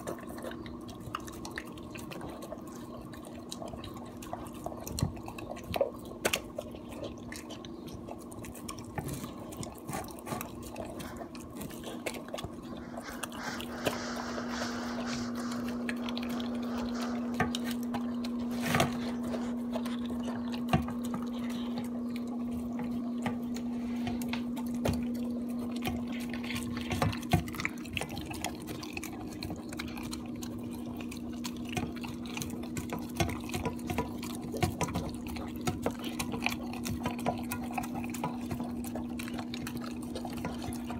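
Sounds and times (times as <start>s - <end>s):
dog licking from metal bowl: 0.0s - 40.9s
steady low hum: 0.0s - 40.9s.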